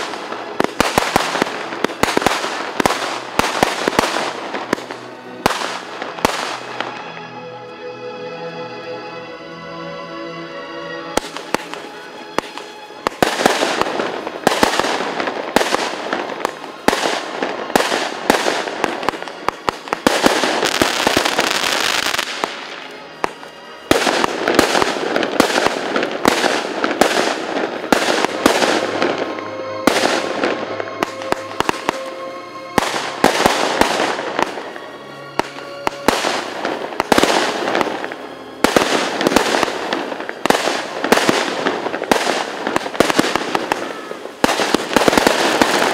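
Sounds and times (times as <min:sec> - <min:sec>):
fireworks bangs: 0:00.0 - 0:07.0, 0:11.2 - 0:45.9
fireworks crackling hiss: 0:00.0 - 0:07.2, 0:11.2 - 0:45.9.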